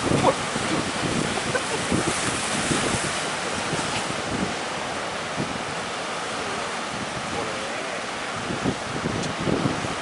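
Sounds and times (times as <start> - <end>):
sea surf washing: 0.0 - 10.0
wind buffeting microphone: 0.0 - 10.0.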